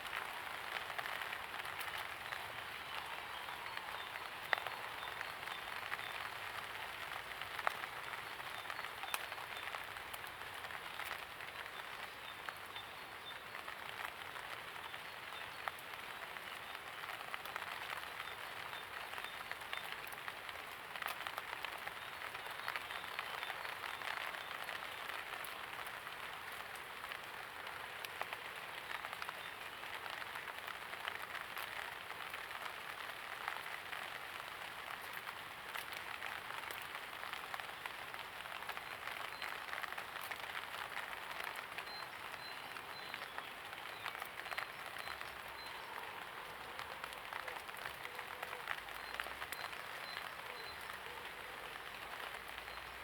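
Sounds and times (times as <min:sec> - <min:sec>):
light rain falling: 0:00.0 - 0:53.0
raindrops clicking: 0:00.0 - 0:53.0.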